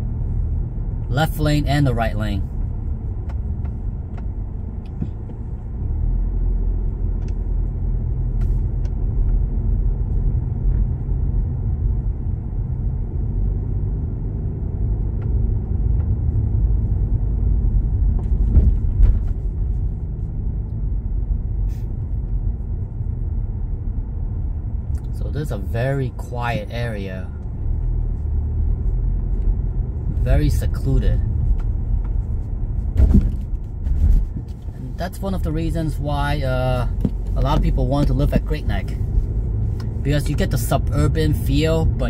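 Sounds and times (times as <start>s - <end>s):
car engine and tyres rumbling: 0.0s - 42.0s.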